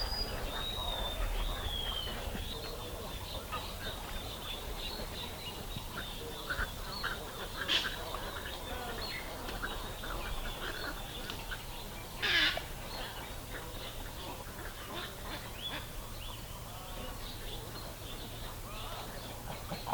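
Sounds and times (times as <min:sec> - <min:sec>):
wild birds calling: 0:00.0 - 0:19.9.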